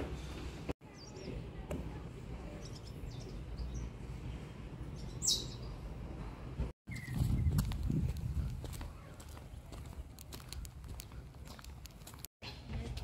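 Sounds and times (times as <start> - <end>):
birds chirping: 0.8 - 6.2, 6.9 - 12.6.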